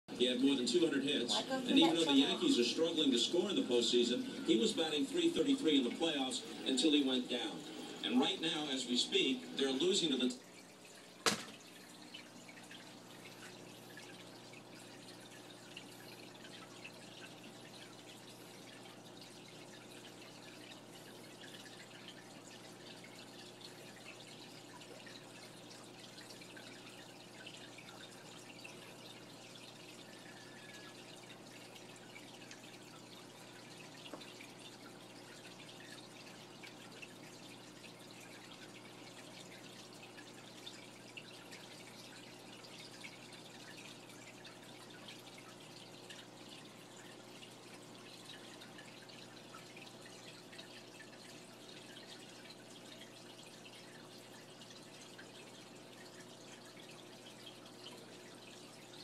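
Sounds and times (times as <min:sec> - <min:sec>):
low electrical hum: 0:00.1 - 0:59.0
water trickling and dripping: 0:00.1 - 0:59.0.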